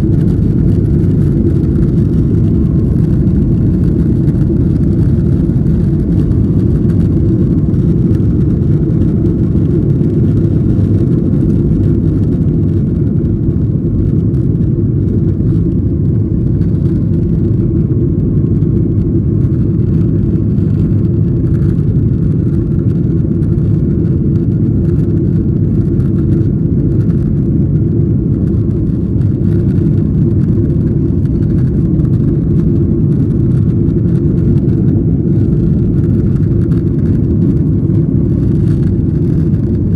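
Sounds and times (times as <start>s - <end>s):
airliner cabin low rumble: 0.0s - 39.9s.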